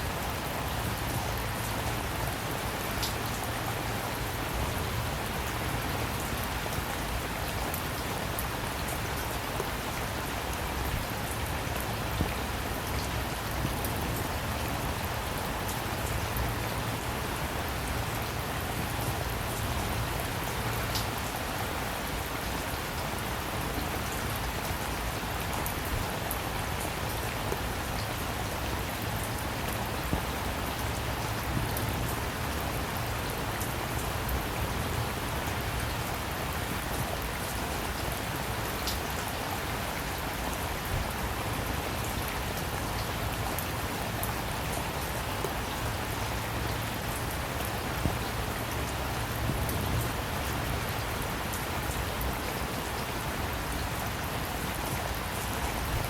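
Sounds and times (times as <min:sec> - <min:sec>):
raindrops pattering: 0:00.0 - 0:56.0
steady rainfall: 0:00.0 - 0:56.0.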